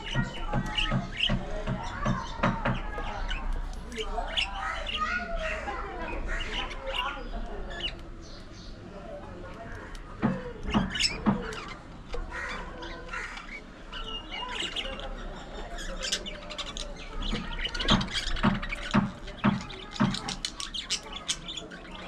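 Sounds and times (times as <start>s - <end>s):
budgerigars chattering: 0.0s - 8.8s, 10.6s - 22.0s.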